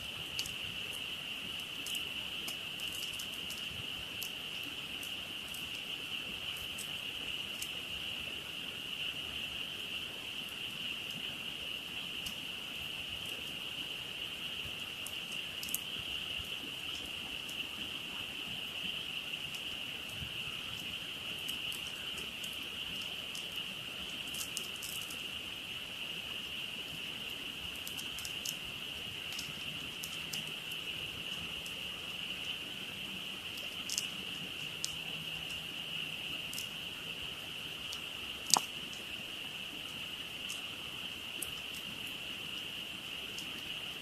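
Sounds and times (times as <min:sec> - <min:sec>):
campfire crackles and pops: 0:00.0 - 0:44.0
frog chorus calling: 0:00.0 - 0:44.0.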